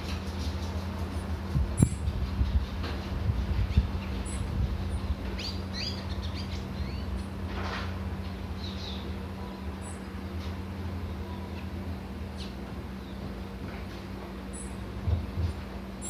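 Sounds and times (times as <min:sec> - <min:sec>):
small birds chirping: 0:00.0 - 0:02.8, 0:03.5 - 0:07.5, 0:08.2 - 0:13.4, 0:14.4 - 0:16.0
steady low hum: 0:00.0 - 0:16.0.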